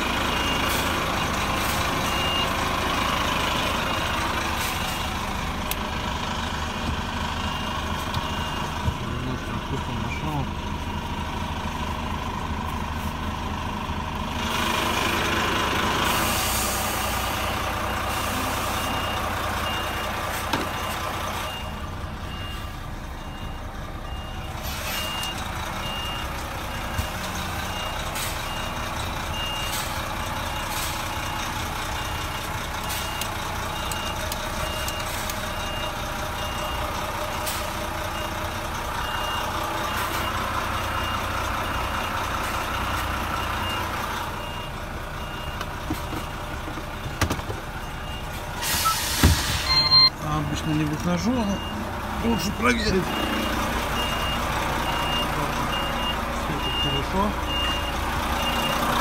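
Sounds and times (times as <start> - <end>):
reversing alarm beeping: 0.0 - 5.2, 6.3 - 11.3, 16.1 - 47.0, 47.8 - 58.9
diesel truck engine running: 0.0 - 59.0.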